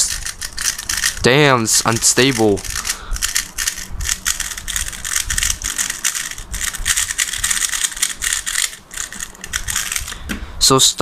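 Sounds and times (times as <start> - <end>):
speed cube turning clatter: 0.0 - 10.2.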